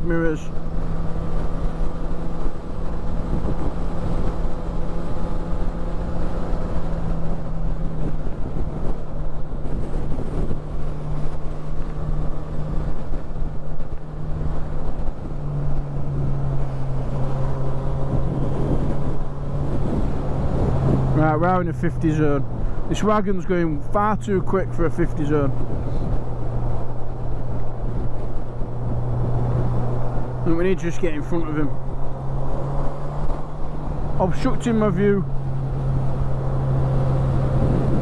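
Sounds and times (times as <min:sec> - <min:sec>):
wind rushing over microphone: 0:00.0 - 0:38.0.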